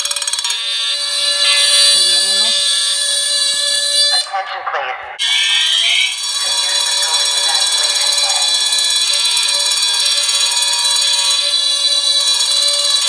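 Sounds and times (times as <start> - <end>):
fire alarm horns sounding: 0.0 - 13.0.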